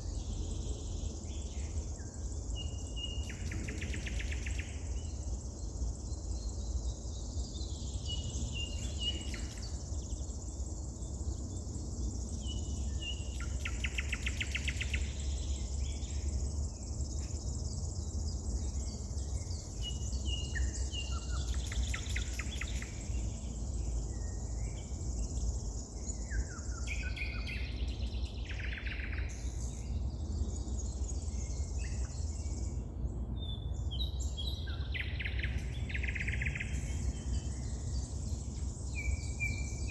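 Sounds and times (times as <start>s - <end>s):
high buzz of insects: 0.0s - 32.9s.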